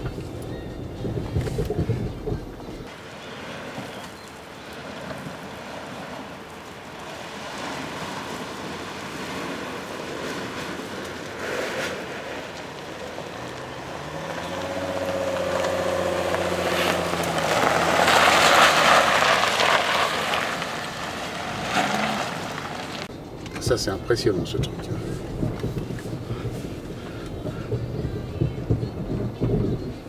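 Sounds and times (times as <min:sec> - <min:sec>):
car engine hum: 0:00.0 - 0:30.0
tyres crunching on gravel: 0:00.0 - 0:30.0
wind: 0:00.0 - 0:30.0.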